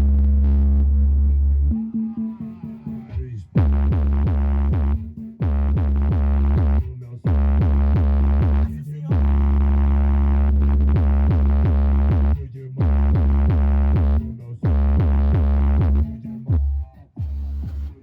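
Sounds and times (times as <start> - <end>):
bass-heavy electronic music: 0.0 - 18.0
deep sub-bass: 0.0 - 18.0.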